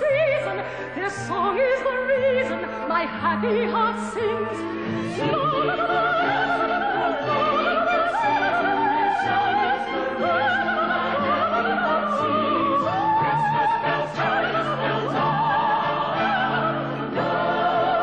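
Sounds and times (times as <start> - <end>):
operatic soprano singing: 0.0 - 18.0
orchestral accompaniment: 0.0 - 18.0.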